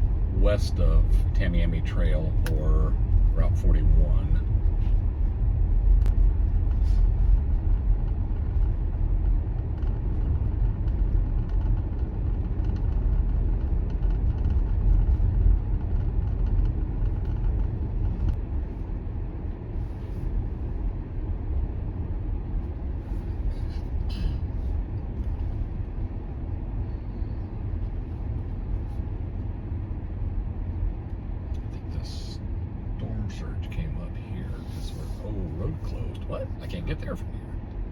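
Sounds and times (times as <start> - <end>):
car road and tyre rumble: 0.0 - 37.9.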